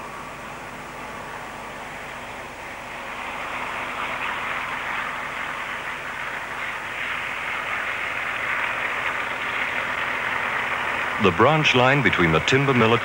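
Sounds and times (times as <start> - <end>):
train running on rails: 0.0 - 13.0.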